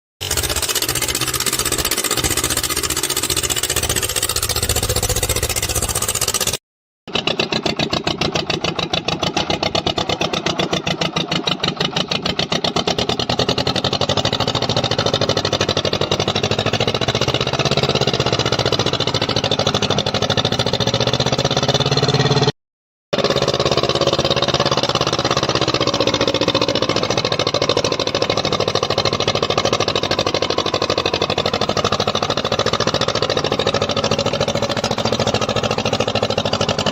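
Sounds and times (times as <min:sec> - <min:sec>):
tractor diesel engine running: 0:00.2 - 0:22.5, 0:23.1 - 0:36.9.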